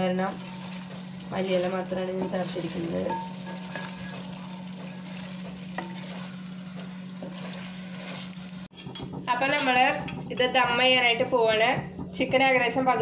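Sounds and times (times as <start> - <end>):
curry sizzling: 0.0 - 13.0
spatula stirring in a pot: 0.0 - 13.0
spatula scraping a pot: 0.3 - 13.0.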